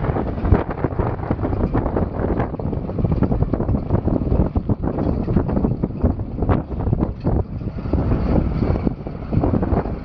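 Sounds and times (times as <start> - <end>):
diesel truck engine running: 0.0 - 10.0
wind buffeting microphone: 0.0 - 10.0.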